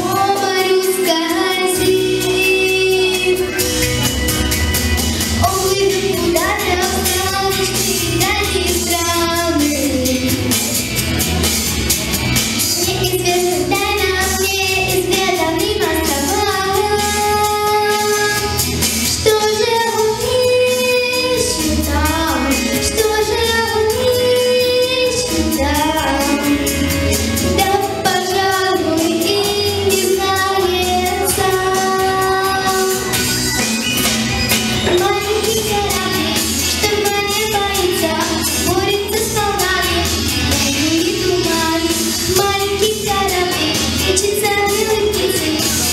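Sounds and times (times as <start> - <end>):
girl singing into a microphone: 0.0 - 3.7, 5.4 - 10.8, 12.7 - 33.2, 34.8 - 45.9
pop backing track with beat: 0.0 - 45.9.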